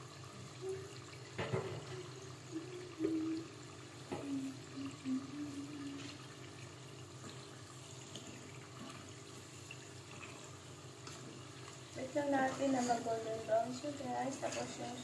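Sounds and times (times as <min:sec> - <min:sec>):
oil sizzling and bubbling: 0:00.0 - 0:15.0.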